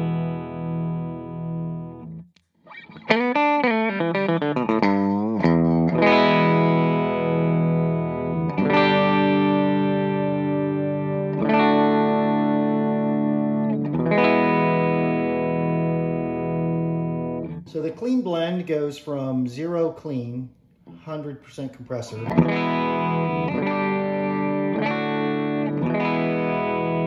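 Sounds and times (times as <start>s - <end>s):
electric guitar chords and notes: 0.0s - 18.0s, 22.1s - 27.0s.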